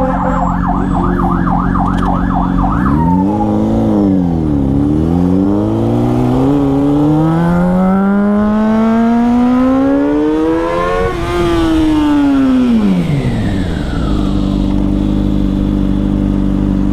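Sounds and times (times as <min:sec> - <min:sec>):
motorcycle engine revving and idling: 0:00.0 - 0:16.9.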